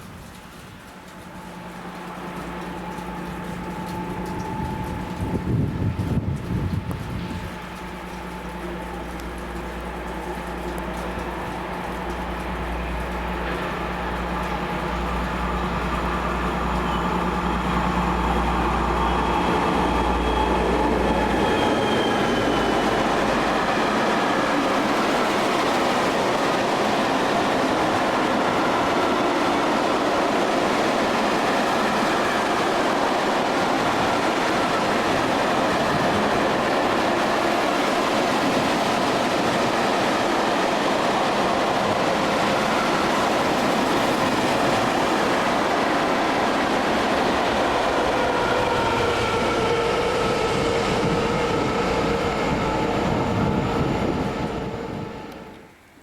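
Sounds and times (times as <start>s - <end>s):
train wheels rumbling on rails: 0.0s - 55.9s
diesel locomotive engine droning: 0.1s - 56.0s.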